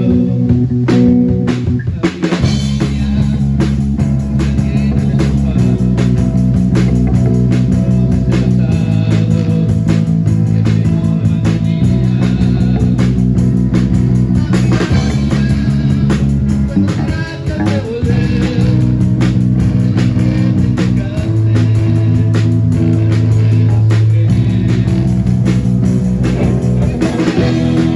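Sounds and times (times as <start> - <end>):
drum hits: 0.0 - 27.9
live band playing pop-metal: 0.0 - 27.9.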